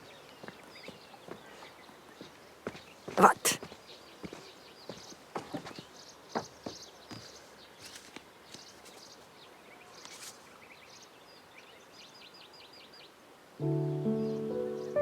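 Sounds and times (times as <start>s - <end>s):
faint outdoor background: 0.0s - 15.0s
small birds chirping: 0.0s - 15.0s.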